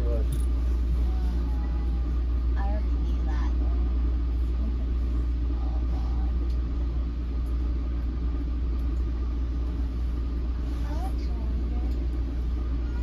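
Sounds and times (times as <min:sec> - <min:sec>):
train equipment humming: 0:00.0 - 0:13.0.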